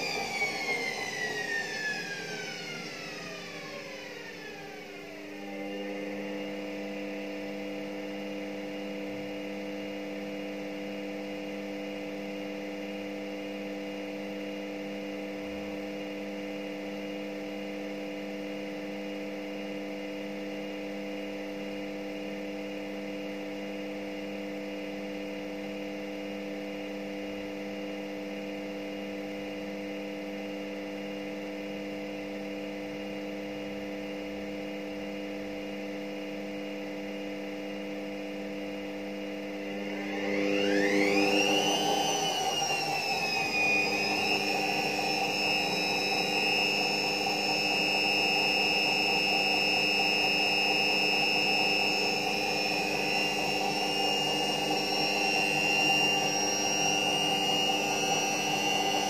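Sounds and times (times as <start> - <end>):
washing machine spin whine: 0.0 - 59.0.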